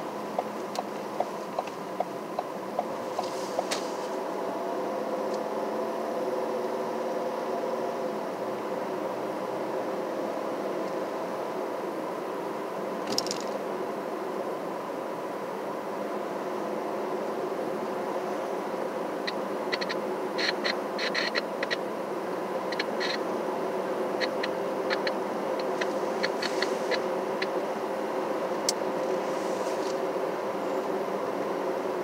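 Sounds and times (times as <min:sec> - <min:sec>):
constant hum: 0:00.0 - 0:32.0.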